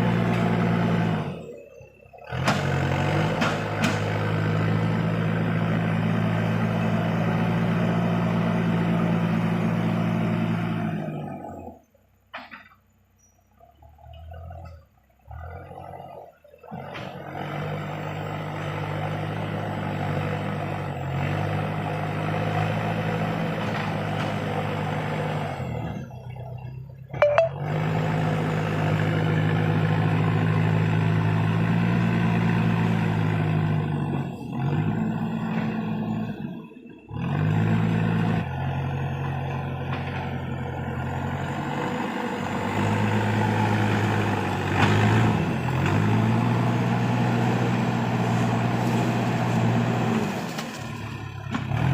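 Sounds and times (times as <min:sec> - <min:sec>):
tractor diesel engine working: 0:00.0 - 0:51.9.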